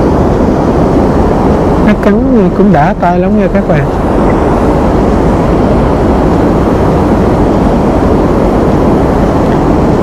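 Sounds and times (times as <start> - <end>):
rushing noise with low rumble: 0.0 - 10.0.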